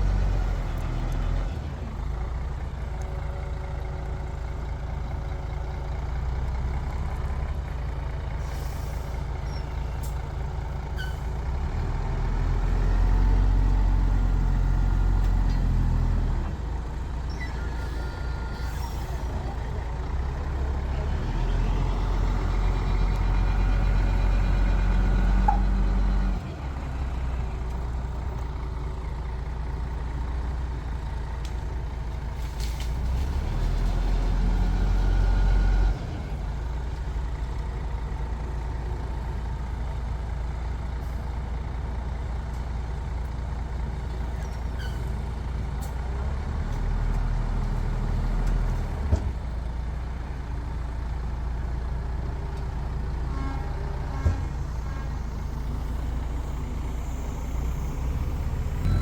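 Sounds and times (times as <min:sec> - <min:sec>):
heavy diesel machinery engines: 0:00.0 - 0:59.0.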